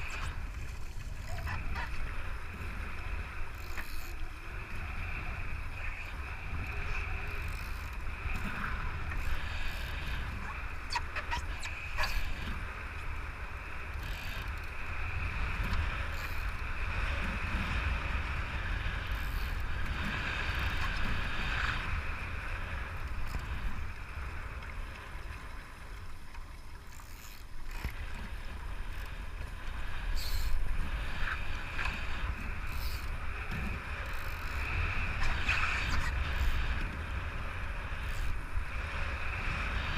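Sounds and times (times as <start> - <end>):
rushing water and spray: 0.0 - 39.9.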